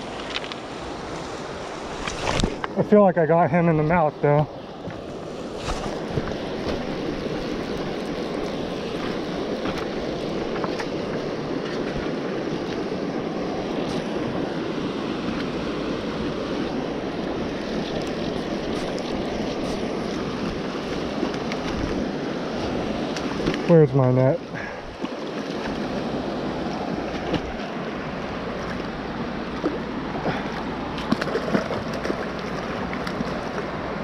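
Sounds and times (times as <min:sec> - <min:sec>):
river water rushing over rocks: 0:00.0 - 0:34.0.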